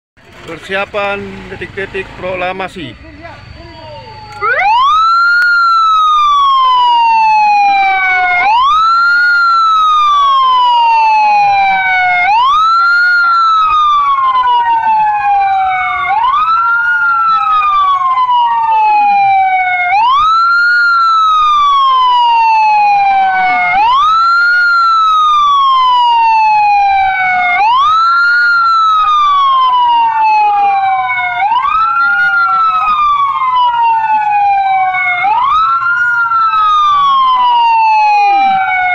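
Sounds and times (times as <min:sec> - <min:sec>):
sirens wailing: 0:00.3 - 0:38.9.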